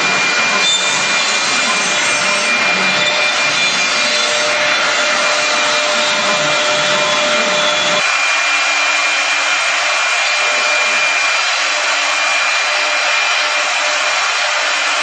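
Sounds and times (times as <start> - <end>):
cutter hissing in wood: 0.0 - 15.0
router spindle high whine: 0.0 - 15.0.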